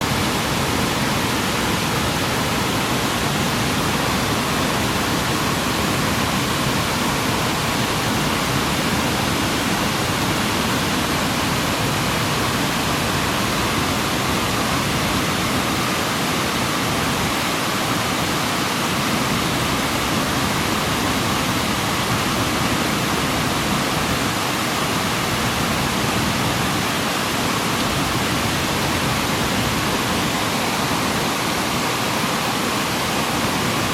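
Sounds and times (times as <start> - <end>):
waterfall pouring over rock: 0.0 - 33.9.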